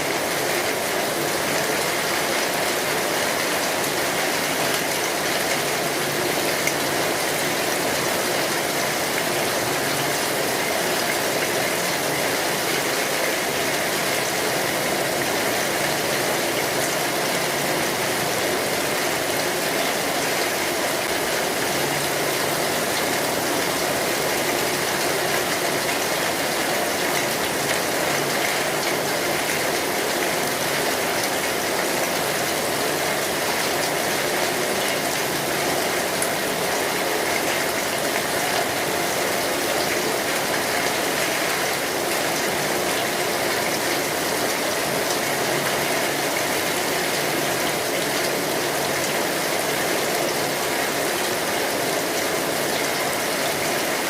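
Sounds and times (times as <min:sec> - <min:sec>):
rain drumming on a metal roof: 0:00.0 - 0:54.0.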